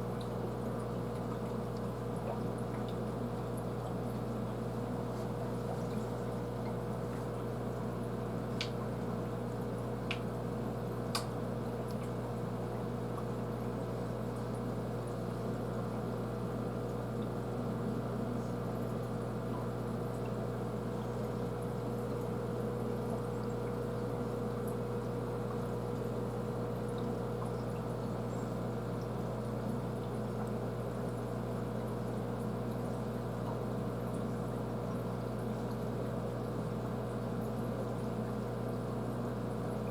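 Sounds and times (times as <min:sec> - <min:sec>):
water trickling: 0:00.0 - 0:39.7
filter motor hum: 0:00.0 - 0:39.9.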